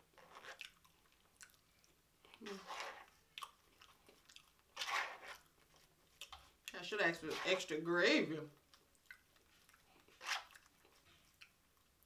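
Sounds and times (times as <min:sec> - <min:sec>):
person chewing soft food: 0:00.0 - 0:06.8, 0:08.6 - 0:12.0.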